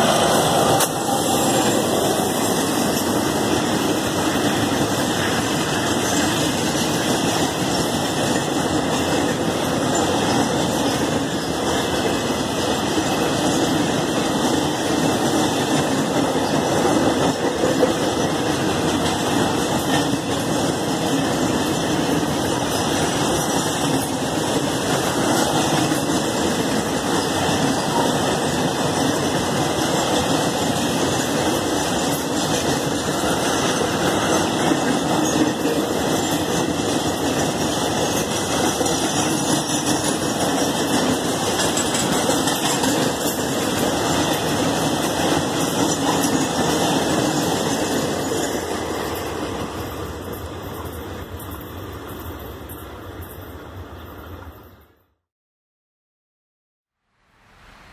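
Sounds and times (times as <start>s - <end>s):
train wheels on rails: 0.0s - 55.2s.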